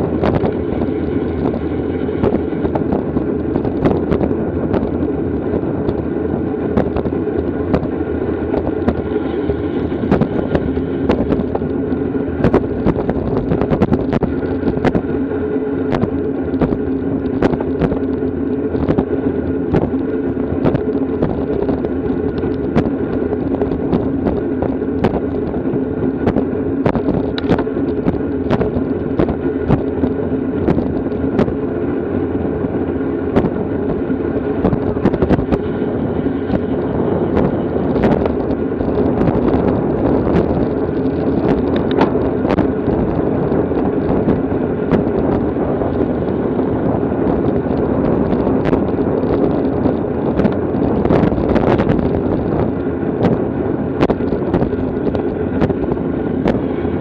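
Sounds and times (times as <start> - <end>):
bicycle road noise: 0.0 - 57.0
constant hum: 0.0 - 57.0
rushing wind: 0.0 - 57.0.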